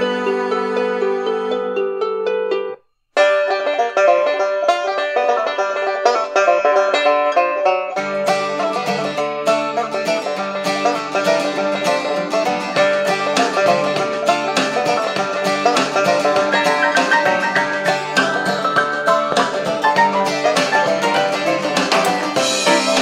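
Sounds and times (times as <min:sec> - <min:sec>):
plucked string music on radio speaker: 0:00.0 - 0:23.0.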